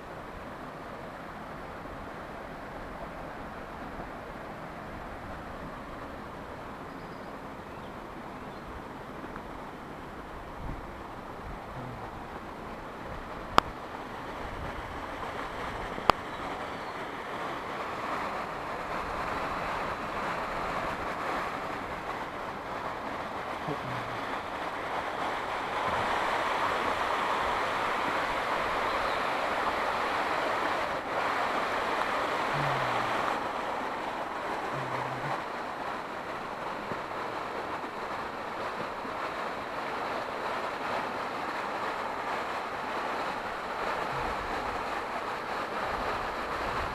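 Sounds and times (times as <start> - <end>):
waterfall cascading over rock: 7.4 - 46.9.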